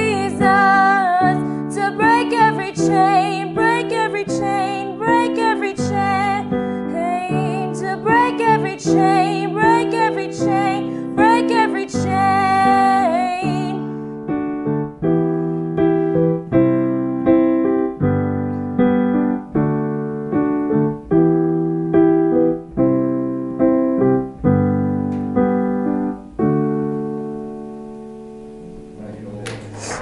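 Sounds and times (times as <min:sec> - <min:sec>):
piano chords: 0:00.0 - 0:30.0.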